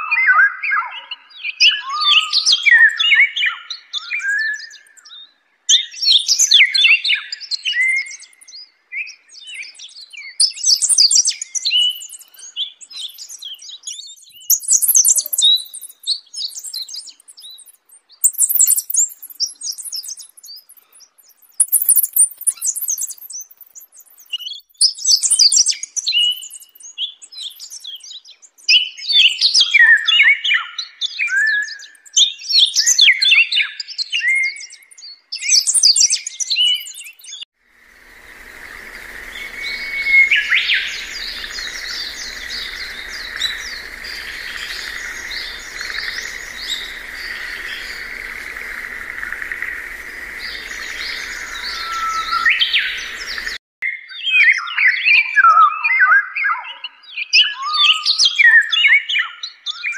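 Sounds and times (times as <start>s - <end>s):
songbirds chirping: 0.8s - 53.6s.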